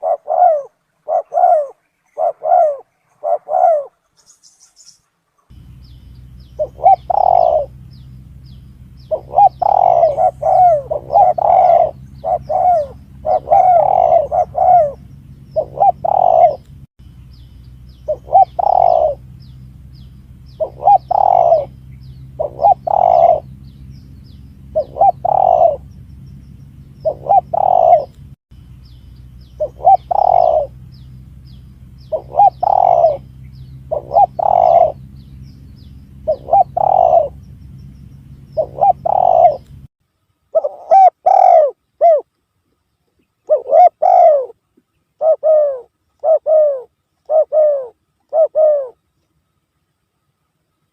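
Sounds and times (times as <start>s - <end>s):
dove cooing: 0.0s - 4.4s, 5.5s - 16.7s, 18.0s - 26.1s, 26.9s - 28.2s, 29.5s - 37.5s, 38.4s - 39.8s, 40.5s - 42.3s, 43.4s - 44.6s, 45.2s - 49.0s
steady low hum: 0.0s - 50.9s.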